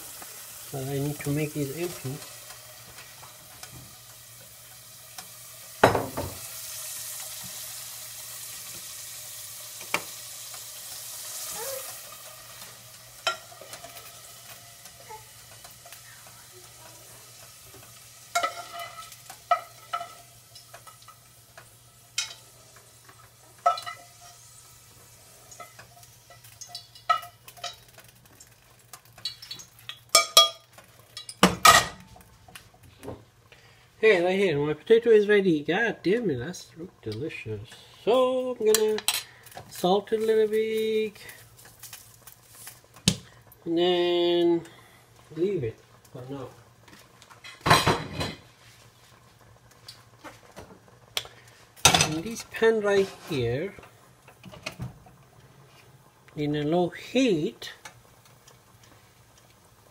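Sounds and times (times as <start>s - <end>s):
potatoes frying in oil: 0.0s - 59.9s.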